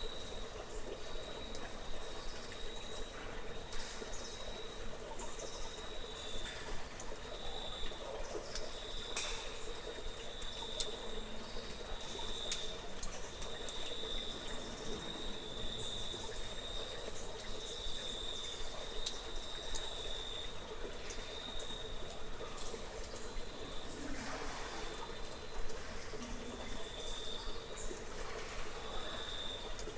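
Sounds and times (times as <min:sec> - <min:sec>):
crickets trilling: 0:00.0 - 0:29.9.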